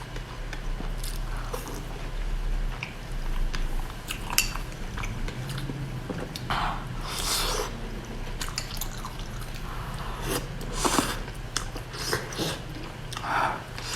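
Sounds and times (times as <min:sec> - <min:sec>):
wet chewing and mouth smacking: 0:02.7 - 0:13.9.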